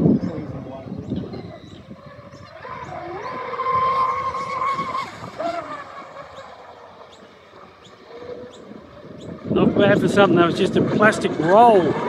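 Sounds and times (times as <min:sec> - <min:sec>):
motor boat whining past: 0:00.0 - 0:12.0.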